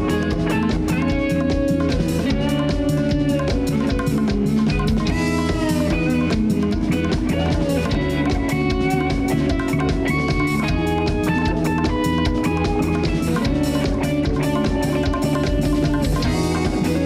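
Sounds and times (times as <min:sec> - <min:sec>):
bass guitar: 0:00.0 - 0:17.0
drum kit beat: 0:00.0 - 0:17.0
electric guitars: 0:00.0 - 0:17.0.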